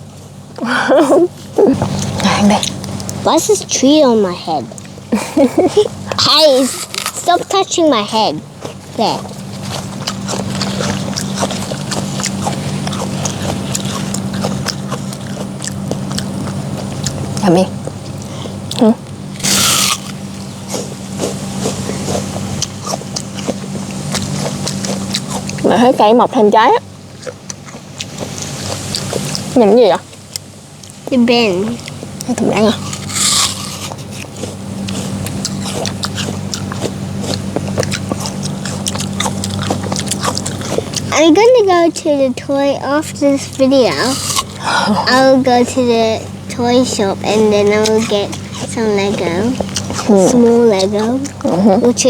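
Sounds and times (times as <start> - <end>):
apple crunching being chewed: 0.0 - 52.0
low hum: 0.0 - 52.0.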